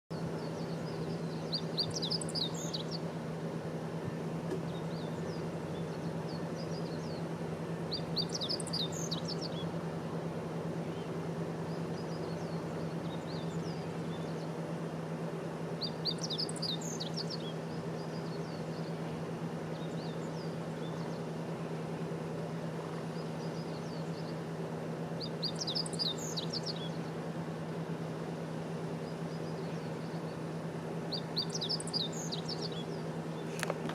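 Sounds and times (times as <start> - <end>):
bird chirping song: 0.1 - 33.9
low steady hum: 0.1 - 33.9.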